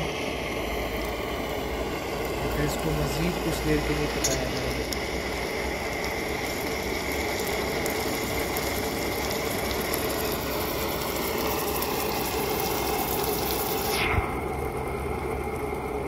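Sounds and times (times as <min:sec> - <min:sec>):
low hum: 0:00.0 - 0:16.0
onions frying in hot oil: 0:00.0 - 0:16.0.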